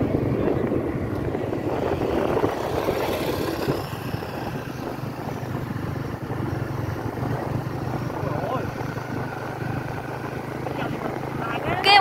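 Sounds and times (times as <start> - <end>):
motorbike engine running: 0.0 - 12.0
wind on microphone: 0.0 - 12.0.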